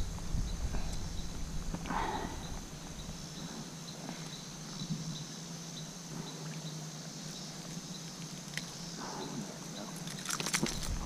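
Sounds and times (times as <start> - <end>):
insect chirps: 0.0 - 11.0
insects droning: 0.0 - 11.0.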